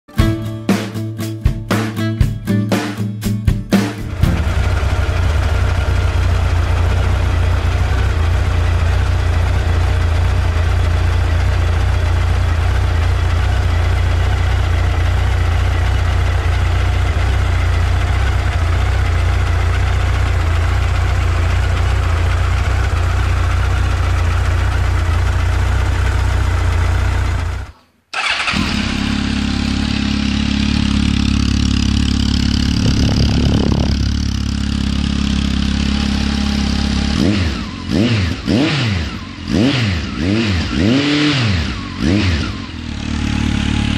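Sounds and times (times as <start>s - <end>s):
motorcycle engine idling: 4.0s - 43.9s.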